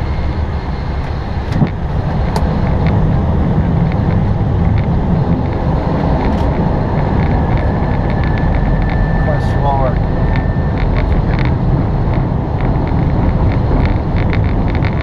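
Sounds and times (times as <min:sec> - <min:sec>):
airflow and engine rumble: 0:00.0 - 0:15.0.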